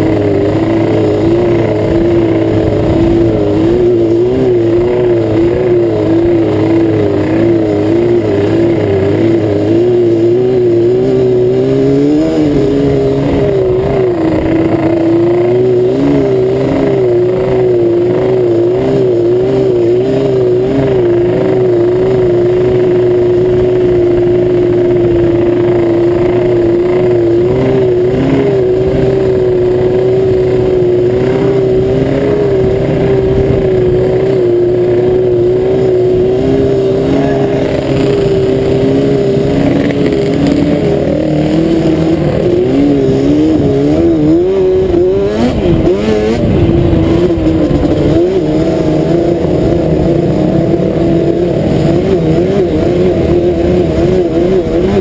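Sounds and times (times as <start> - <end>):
quad engine running: 0.0 - 55.0.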